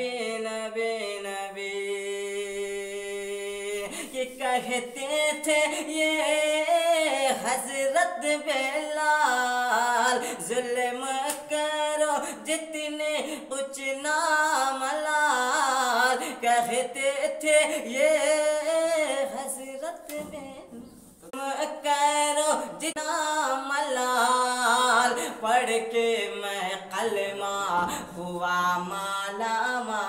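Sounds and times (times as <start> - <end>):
man singing unaccompanied: 0.0 - 30.0.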